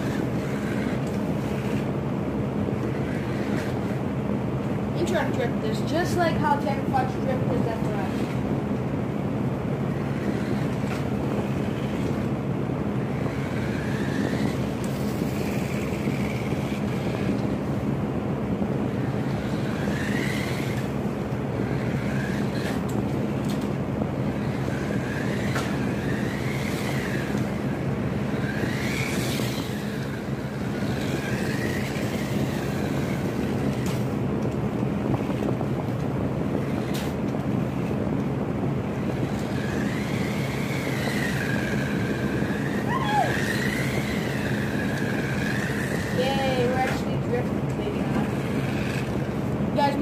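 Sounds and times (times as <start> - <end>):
toy car motor whining: 0.0 - 1.9, 2.8 - 4.0, 5.0 - 8.5, 9.9 - 12.4, 13.0 - 17.9, 18.8 - 34.2, 35.1 - 38.0, 38.9 - 50.0.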